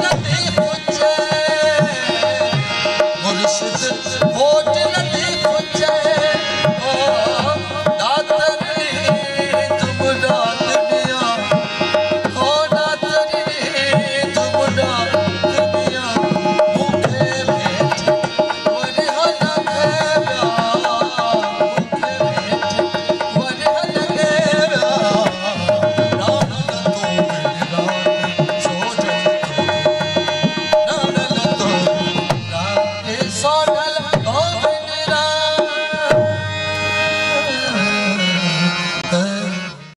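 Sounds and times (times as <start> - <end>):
hand drum rhythm: 0.0 - 36.3
harmonium notes: 0.0 - 39.9
man singing: 0.0 - 39.9.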